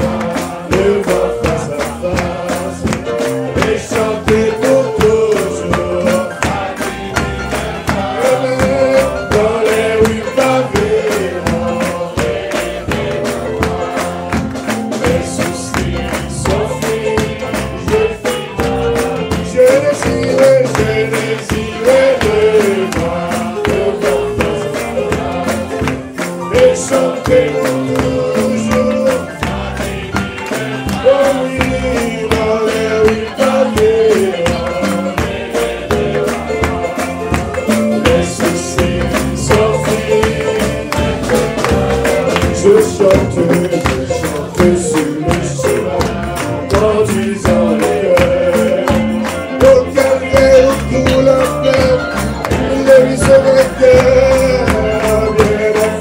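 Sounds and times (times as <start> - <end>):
hand clapping: 0.0 - 56.0
percussion beat: 0.0 - 56.0
voices singing: 0.0 - 56.0.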